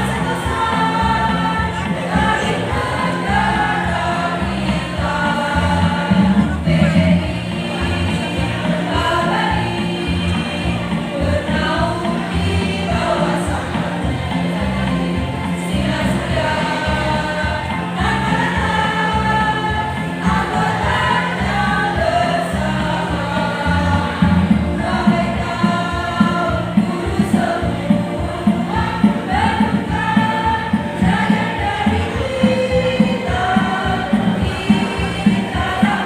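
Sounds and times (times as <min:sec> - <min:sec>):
choir singing: 0:00.0 - 0:36.0
rhythmic instrumental accompaniment: 0:00.0 - 0:36.0.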